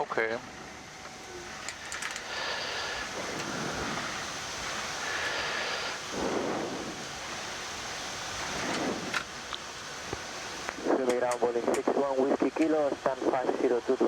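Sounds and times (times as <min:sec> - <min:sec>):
steady rushing noise in cockpit: 0:00.0 - 0:14.0.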